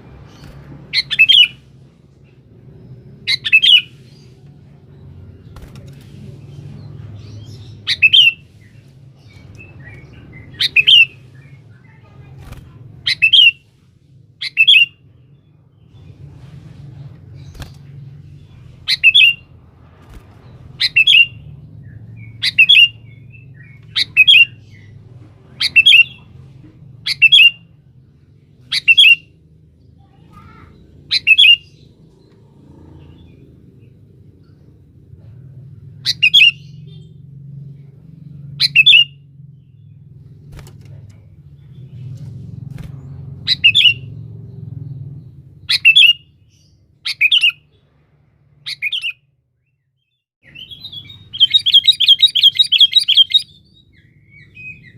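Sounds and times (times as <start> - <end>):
faint low hum: 0.0 - 54.9
bird chirping calls: 0.1 - 5.6, 6.2 - 16.2, 17.2 - 19.6, 20.4 - 26.4, 27.0 - 27.9, 28.6 - 34.8, 35.8 - 47.8, 48.6 - 54.9.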